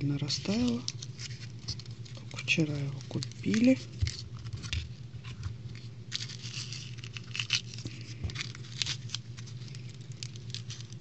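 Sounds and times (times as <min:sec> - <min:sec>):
steady low hum: 0:00.0 - 0:11.0
foil wrapper crinkling: 0:00.1 - 0:11.0.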